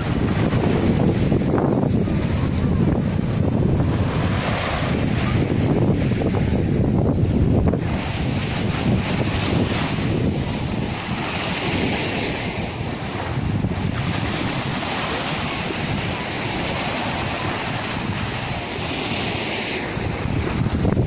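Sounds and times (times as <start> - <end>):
sea waves breaking: 0.0 - 21.0
wind buffeting microphone: 0.0 - 21.0.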